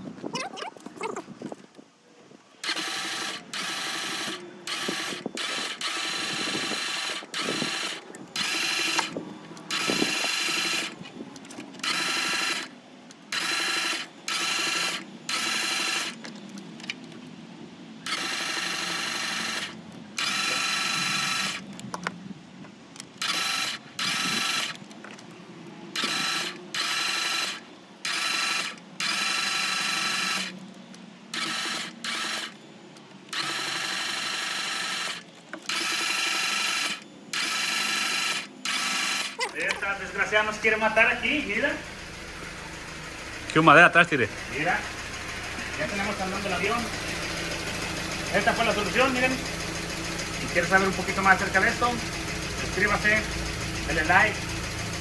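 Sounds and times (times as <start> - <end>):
starter motor cranking engine: 2.6 - 17.2, 18.0 - 21.9, 23.2 - 25.3, 25.9 - 32.6, 33.2 - 55.0.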